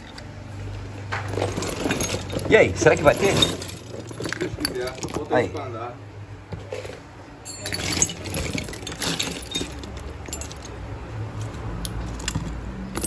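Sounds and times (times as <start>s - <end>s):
small metal parts rattling: 1.1s - 5.9s, 6.7s - 13.0s.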